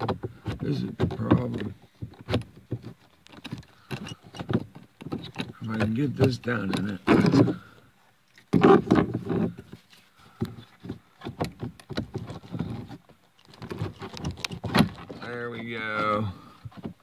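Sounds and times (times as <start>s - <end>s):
plastic rubbing and scraping: 0.0s - 17.0s.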